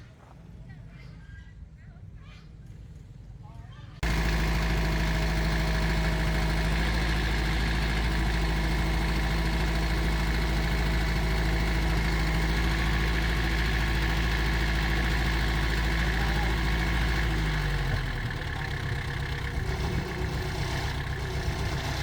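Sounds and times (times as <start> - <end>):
diesel engine idling: 4.0 - 22.0.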